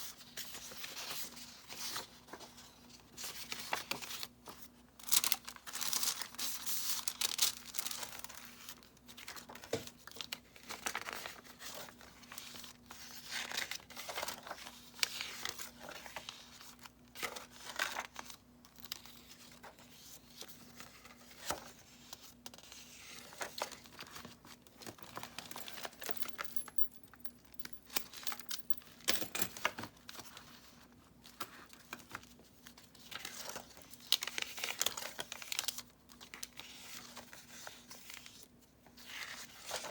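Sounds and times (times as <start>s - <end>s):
paper pages rustling: 0.0s - 26.0s, 29.6s - 39.9s.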